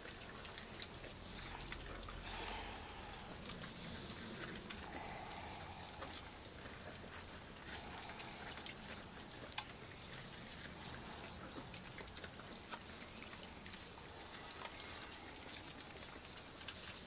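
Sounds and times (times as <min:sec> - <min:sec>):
puppies eating from metal bowl: 0:00.0 - 0:17.0.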